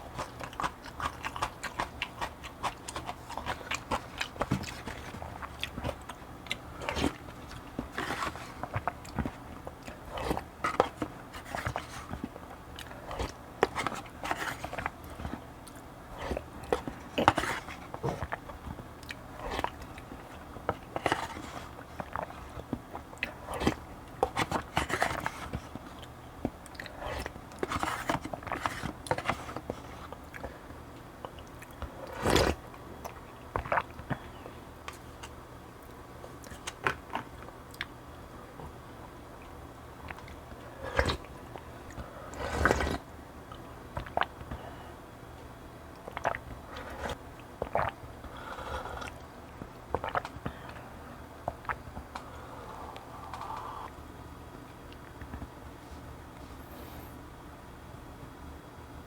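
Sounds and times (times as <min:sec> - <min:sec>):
chewing with wet mouth sounds: 0:00.0 - 0:56.4.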